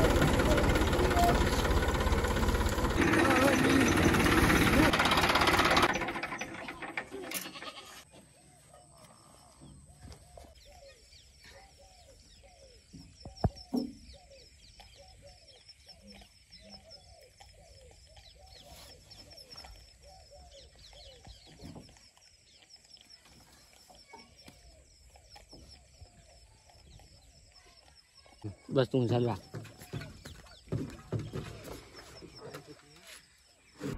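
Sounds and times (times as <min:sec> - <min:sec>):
birds chirping and calling: 0:00.0 - 0:33.9.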